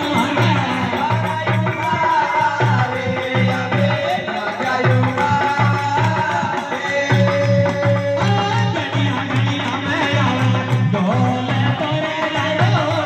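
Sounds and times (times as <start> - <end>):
man singing through microphone: 0.0 - 13.0
repeating drum rhythm: 0.0 - 13.0.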